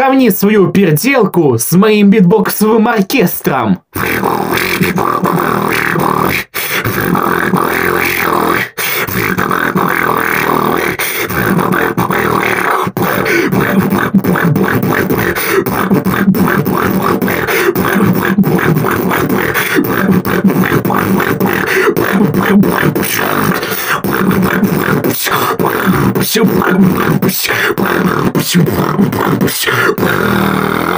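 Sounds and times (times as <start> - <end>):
beatboxing: 0.0 - 30.9.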